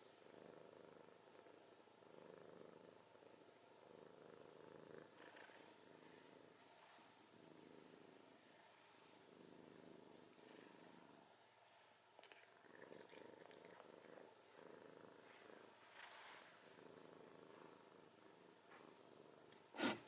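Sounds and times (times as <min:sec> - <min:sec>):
cat snoring faintly: 0:00.0 - 0:20.0.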